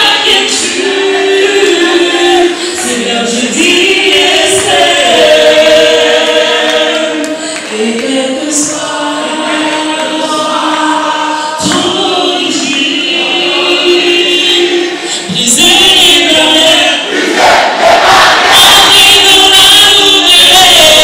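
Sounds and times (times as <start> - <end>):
group singing together: 0.0 - 21.0.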